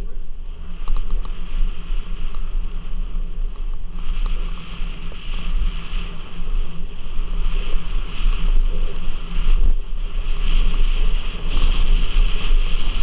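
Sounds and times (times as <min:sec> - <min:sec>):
bike tyres on dirt trail: 0:00.0 - 0:13.0
wind buffeting microphone: 0:00.0 - 0:13.0.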